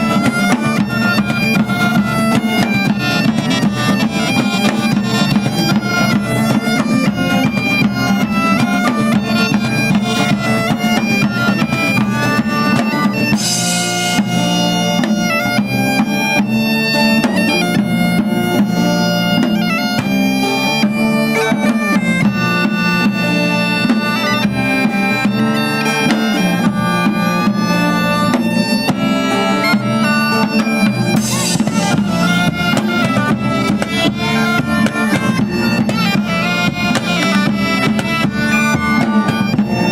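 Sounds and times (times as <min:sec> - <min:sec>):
bagpipe music: 0:00.0 - 0:39.9
drums: 0:00.0 - 0:39.9.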